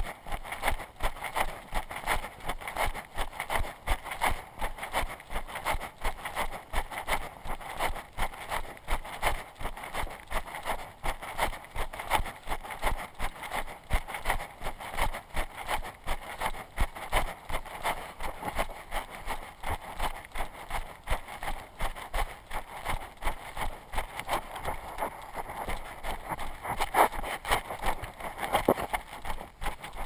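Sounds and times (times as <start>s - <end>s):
footsteps on dirt trail: 0.0s - 30.0s.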